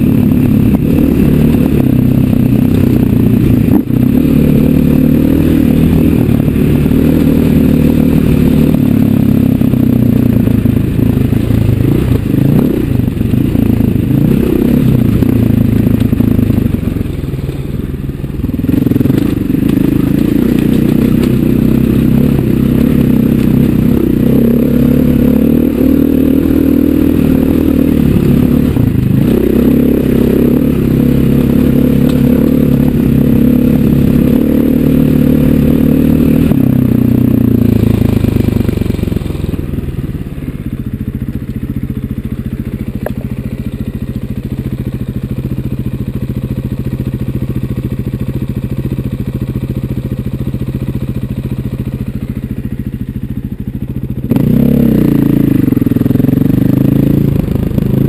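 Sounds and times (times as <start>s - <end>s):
dirt bike engine revving: 0.0s - 17.8s, 18.4s - 45.7s, 53.8s - 58.0s.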